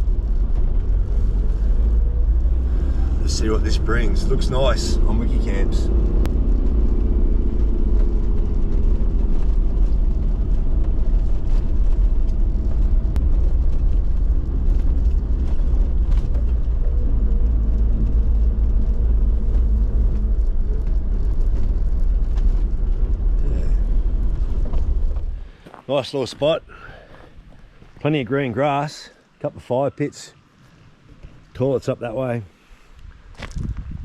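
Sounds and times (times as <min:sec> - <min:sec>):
vehicle engine and road rumble: 0:00.0 - 0:34.0.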